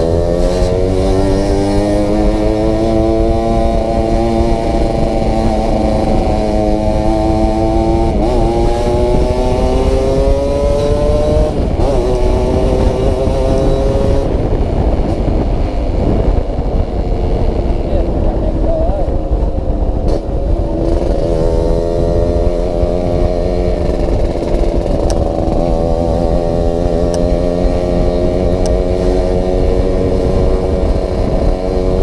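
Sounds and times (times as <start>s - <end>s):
two-stroke motorcycle engine: 0.0s - 32.0s.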